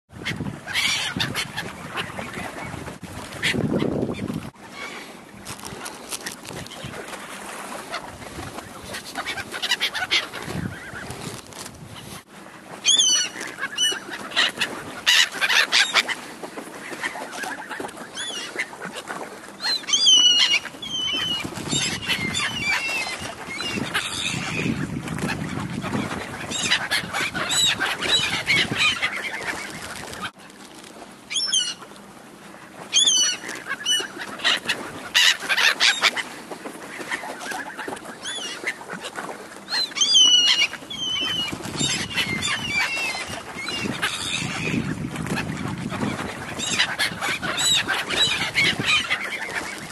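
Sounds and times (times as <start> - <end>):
gulls calling: 0.2 - 11.3, 12.7 - 30.4, 31.2 - 49.9.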